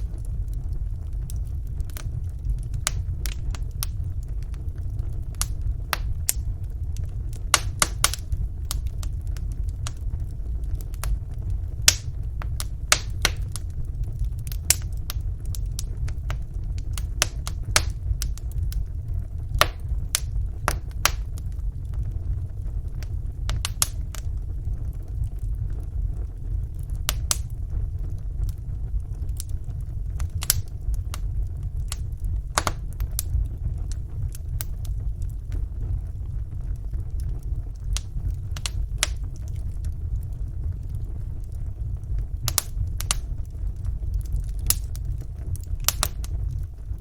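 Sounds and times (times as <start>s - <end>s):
fire low rumble: 0.0s - 47.0s
logs crackling and popping: 0.0s - 47.0s.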